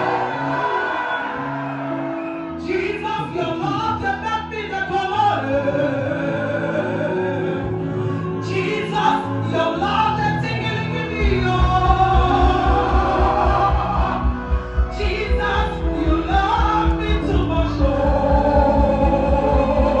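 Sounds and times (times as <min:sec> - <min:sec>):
voices singing worship music: 0:00.0 - 0:20.0.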